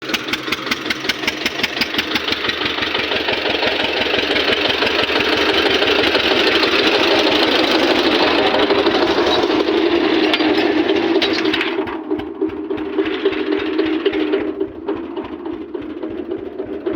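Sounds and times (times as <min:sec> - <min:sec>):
tractor diesel engine knocking: 0:00.0 - 0:16.9.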